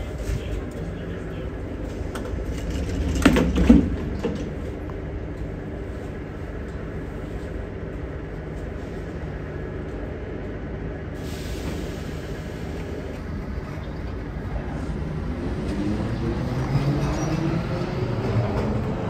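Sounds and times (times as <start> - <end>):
metro train equipment humming: 0.0 - 19.0.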